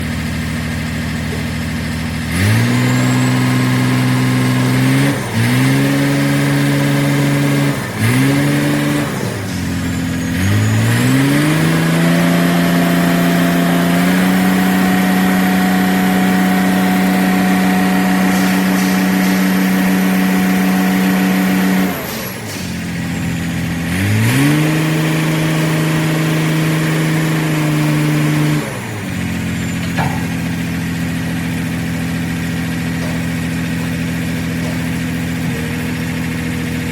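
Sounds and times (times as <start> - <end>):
diesel engine idling and revving: 0.0 - 36.9.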